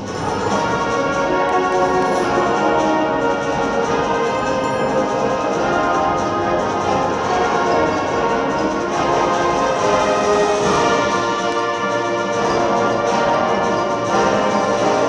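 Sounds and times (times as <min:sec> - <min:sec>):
brass sustained chords: 0:00.0 - 0:15.0
concert band playing: 0:00.0 - 0:15.0.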